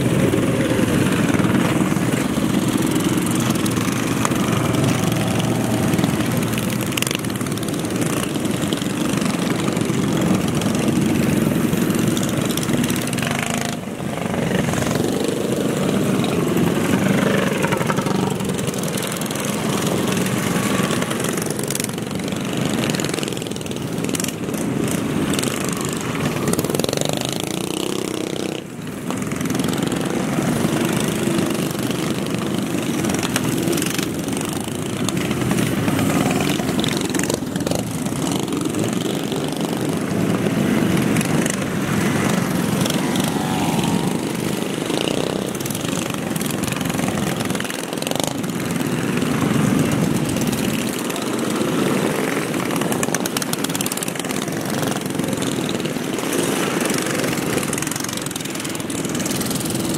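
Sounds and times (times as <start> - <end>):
mini bike engines revving: 0.0 - 59.9.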